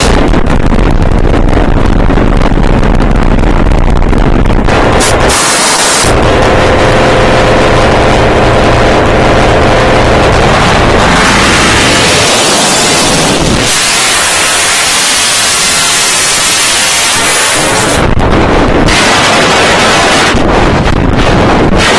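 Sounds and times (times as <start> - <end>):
loud harsh noise: 0.0 - 21.9.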